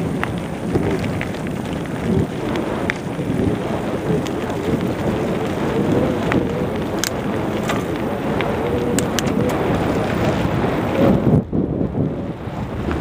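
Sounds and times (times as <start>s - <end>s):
bike clicks and rattles: 0.0s - 11.2s
bicycle tyres rumbling on dirt: 0.0s - 13.0s
wind on microphone: 0.0s - 13.0s.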